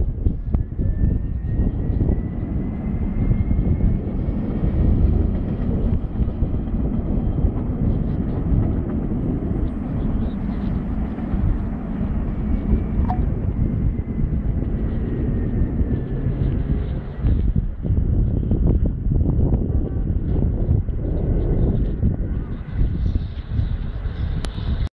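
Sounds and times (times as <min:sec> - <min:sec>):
tram low rumble: 0:00.0 - 0:24.9
wind on microphone: 0:00.0 - 0:24.9.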